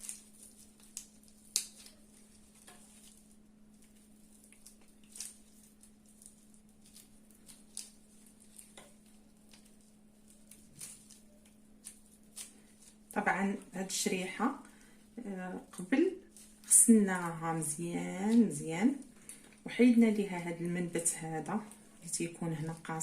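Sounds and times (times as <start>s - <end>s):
dried figs pulled open by hand: 0.0s - 19.7s
steady low hum: 0.0s - 23.0s.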